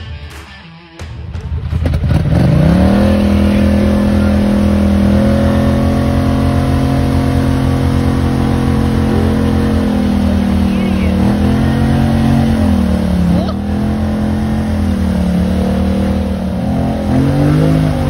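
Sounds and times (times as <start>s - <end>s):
quad engine revving hard: 1.8s - 18.0s.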